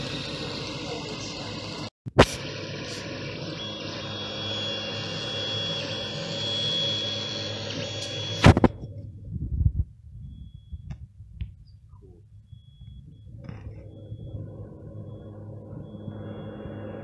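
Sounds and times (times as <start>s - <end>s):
fans whirring: 0.0s - 9.2s, 11.9s - 17.0s
stepper motors whining: 0.0s - 9.2s, 11.7s - 17.0s.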